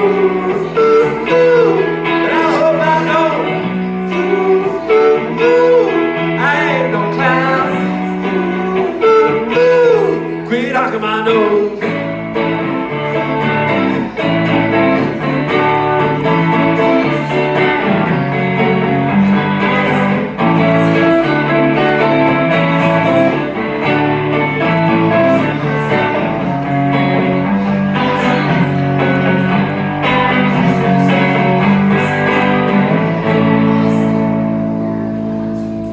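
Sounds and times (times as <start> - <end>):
live band guitar instrumental: 0.0 - 35.9.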